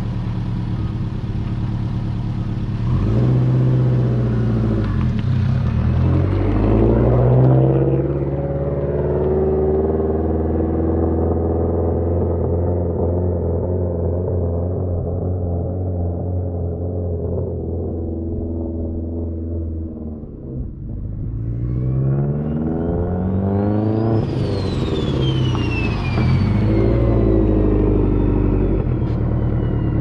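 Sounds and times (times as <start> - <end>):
car engine revving: 2.2 - 30.0.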